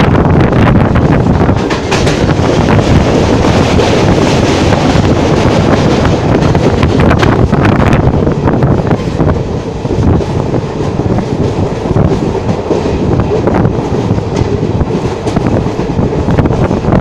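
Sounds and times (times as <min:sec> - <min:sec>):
train wheels rumbling on rails: 0:00.0 - 0:17.0
wind buffeting microphone: 0:00.0 - 0:17.0.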